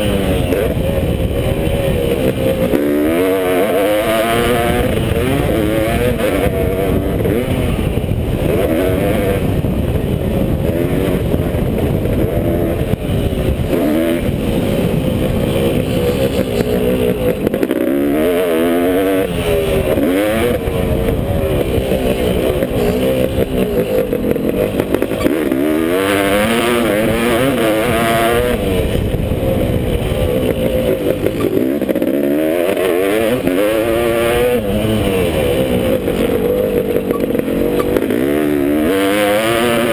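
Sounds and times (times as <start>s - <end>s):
two-stroke motocross engine revving: 0.0s - 39.9s.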